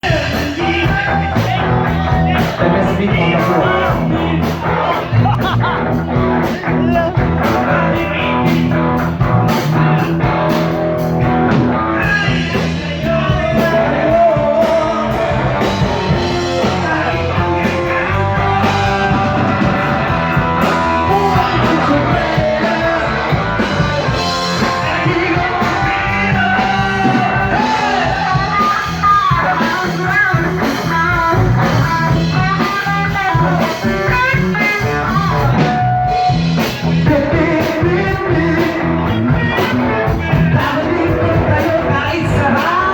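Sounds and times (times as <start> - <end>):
band playing blues-rock: 0.0 - 42.9
person singing: 0.0 - 42.9.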